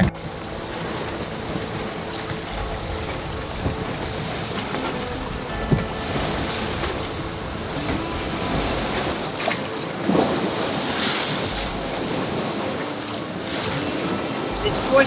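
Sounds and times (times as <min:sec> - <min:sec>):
water splashing along hull: 0:00.0 - 0:15.0
wind buffeting microphone: 0:00.0 - 0:15.0.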